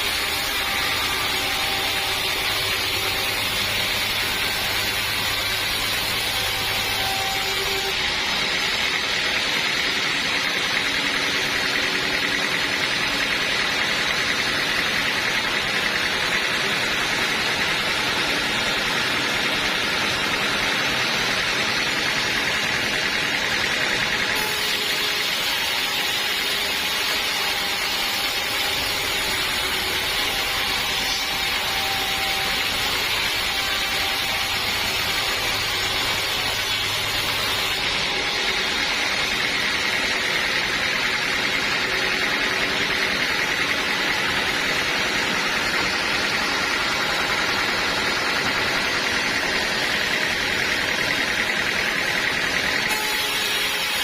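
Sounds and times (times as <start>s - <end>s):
sawmill machine hum: 0.0s - 54.0s.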